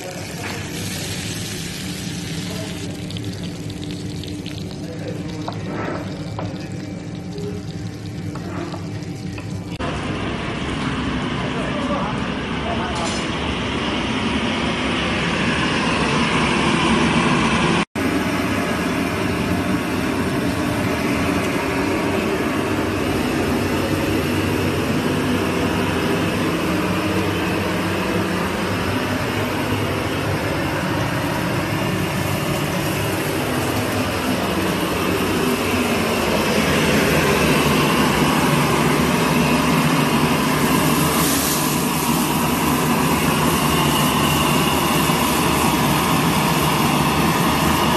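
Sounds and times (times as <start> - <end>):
gas range flames roaring: 0.0 - 47.9.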